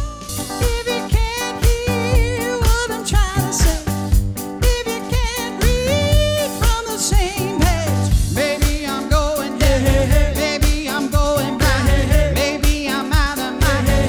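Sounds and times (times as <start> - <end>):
singer with vibrato: 0.0 - 4.0, 4.6 - 14.0
band playing a song: 0.0 - 14.0.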